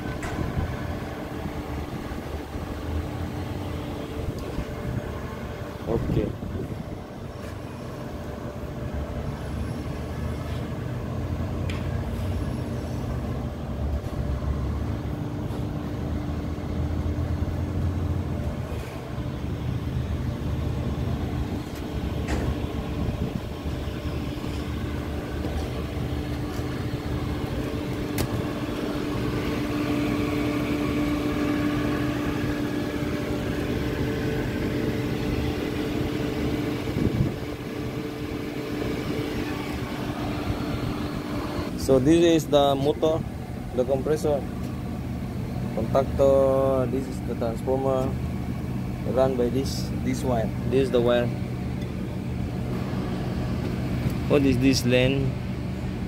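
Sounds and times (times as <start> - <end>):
machinery drone: 0.0 - 56.0.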